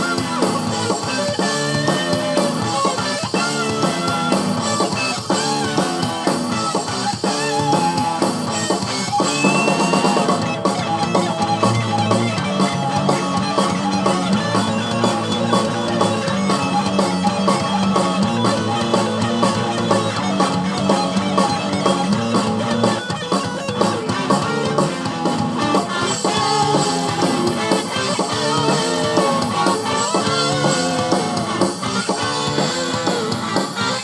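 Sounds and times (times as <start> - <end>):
rock music: 0.0 - 34.0.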